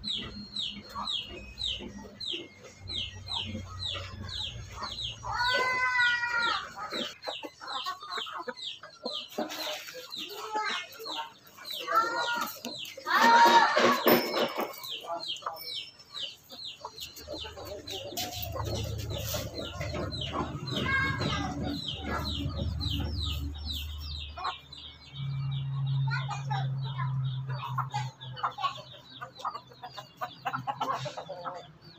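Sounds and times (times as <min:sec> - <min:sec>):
chickens clucking: 0:00.0 - 0:31.9
chicks peeping: 0:00.0 - 0:31.9.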